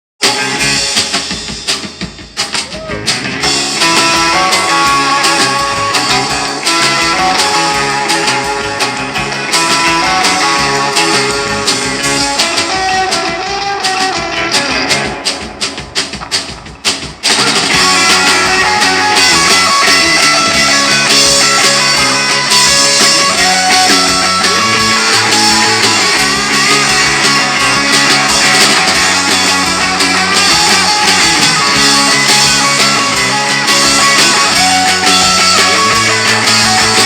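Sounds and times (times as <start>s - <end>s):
rock music with electric guitar: 0.2s - 37.0s.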